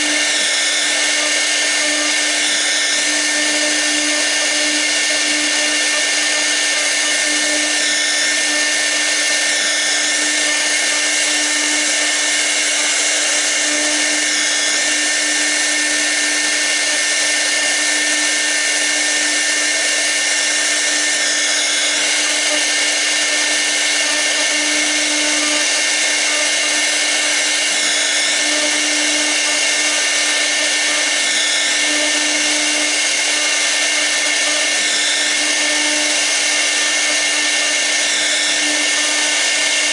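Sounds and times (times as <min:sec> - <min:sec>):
router spindle high-pitched whine: 0:00.0 - 0:39.9.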